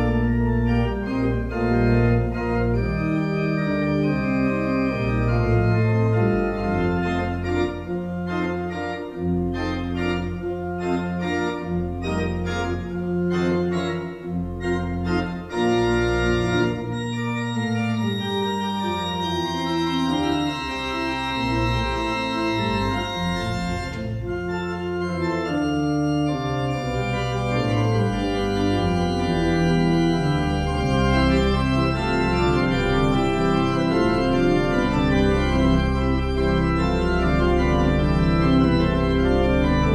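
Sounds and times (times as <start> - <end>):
pipe organ playing: 0.0 - 39.9.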